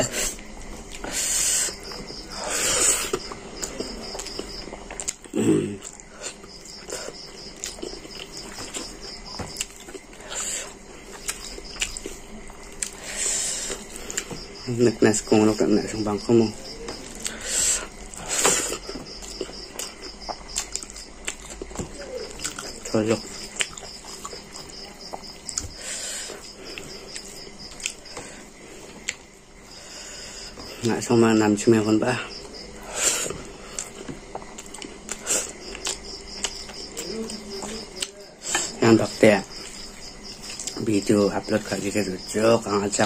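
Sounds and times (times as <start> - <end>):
person chewing food: 0.1 - 14.7, 16.6 - 31.0, 32.3 - 41.0.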